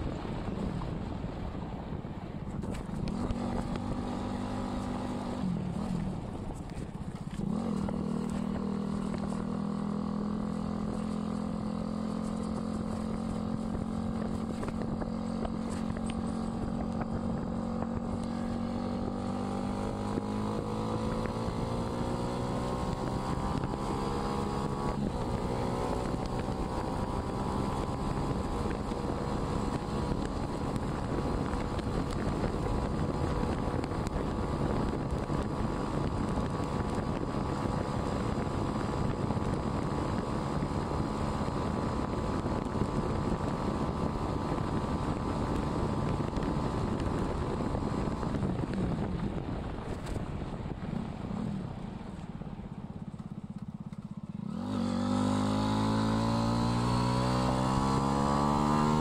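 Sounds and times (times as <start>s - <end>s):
motorcycle engine running: 2.4s - 59.0s.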